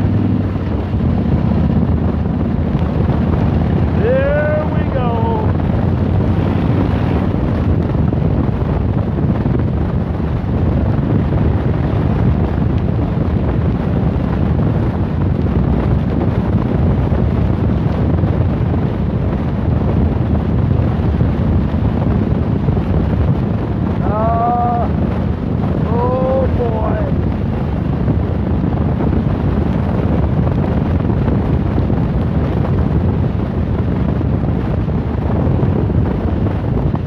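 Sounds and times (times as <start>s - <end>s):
motorcycle engine: 0.0s - 37.0s
road noise: 0.0s - 37.0s
wind buffeting microphone: 0.0s - 37.0s.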